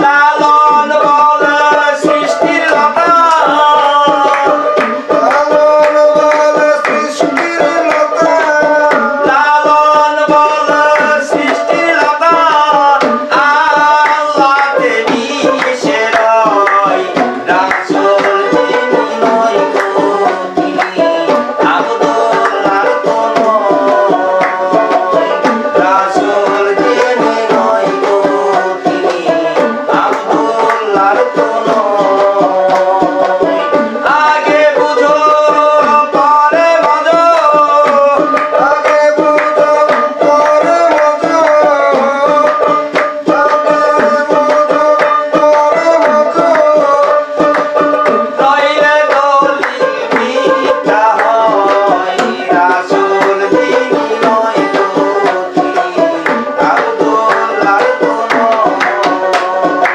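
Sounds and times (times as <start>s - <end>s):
folk melody: 0.0s - 59.9s
hand drum rhythm: 0.0s - 59.9s
small percussion: 0.0s - 59.9s.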